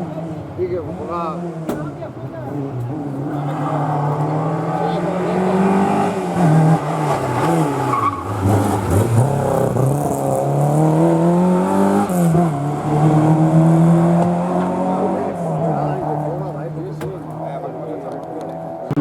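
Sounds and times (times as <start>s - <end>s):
rally car engine accelerating: 0.0s - 19.0s.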